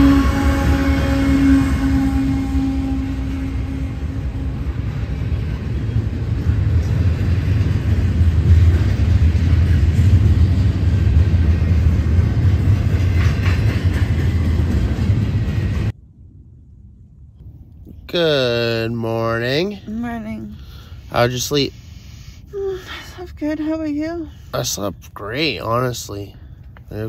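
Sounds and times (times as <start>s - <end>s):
train rumbling on tracks: 0.0s - 27.0s.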